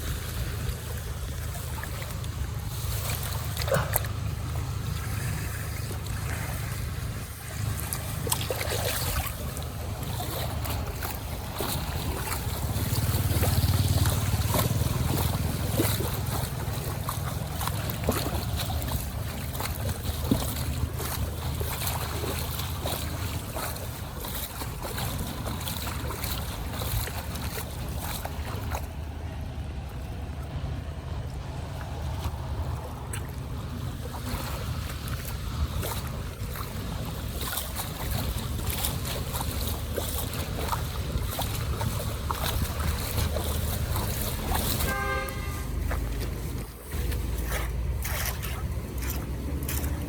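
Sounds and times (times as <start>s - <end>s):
floodwater splashing and rushing: 0.0s - 50.0s
wind rumble on microphone: 0.0s - 50.0s.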